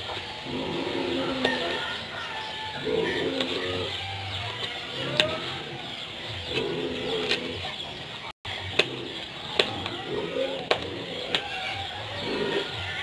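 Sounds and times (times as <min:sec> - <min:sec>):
bird cooing: 0:00.0 - 0:13.0.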